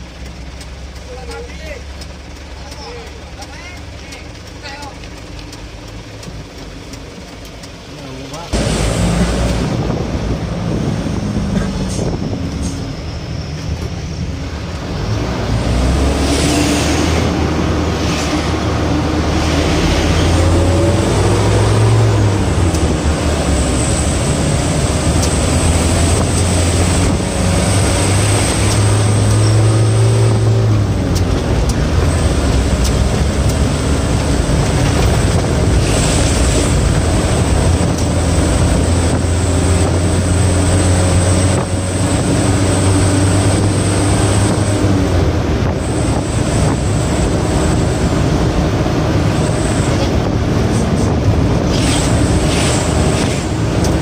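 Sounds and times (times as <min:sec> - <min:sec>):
diesel truck engine: 0:00.0 - 0:54.0
road noise: 0:00.0 - 0:54.0.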